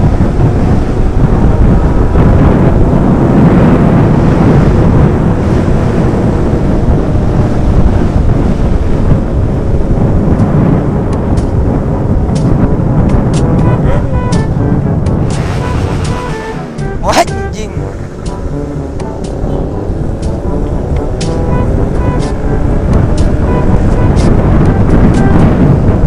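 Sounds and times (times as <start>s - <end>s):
motorcycle engines running: 0.0s - 26.0s
wind rumbling on microphone: 0.0s - 26.0s.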